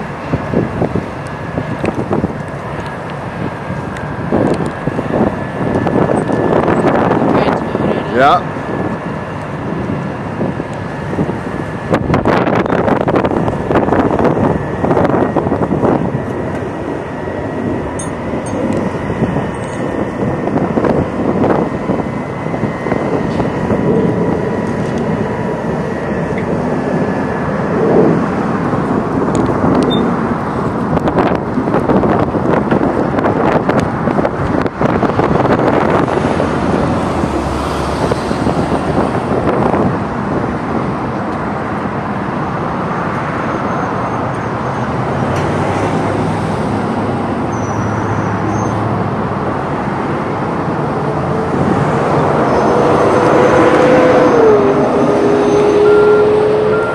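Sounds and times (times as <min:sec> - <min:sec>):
construction site noise: 0:00.0 - 0:56.9
road traffic: 0:00.0 - 0:56.9.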